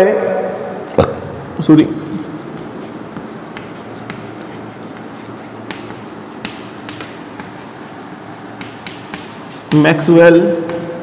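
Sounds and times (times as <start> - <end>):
room noise hiss: 0.0 - 11.0
chalk tapping and scratching: 1.8 - 11.0.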